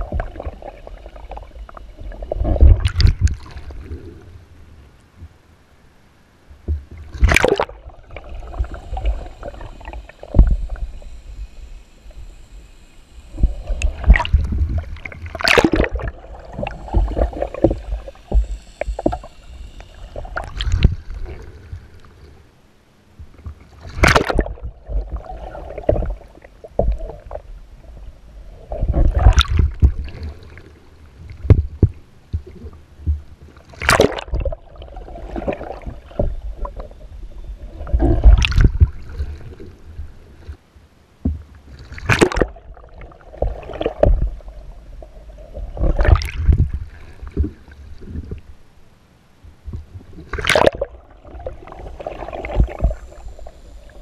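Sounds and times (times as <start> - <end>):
water splashing around kayak: 0.0 - 4.2, 6.6 - 22.5, 23.2 - 40.6, 41.2 - 48.9, 49.5 - 54.0
underwater rumbling and gurgling: 0.0 - 22.6, 23.2 - 40.6, 41.2 - 54.0.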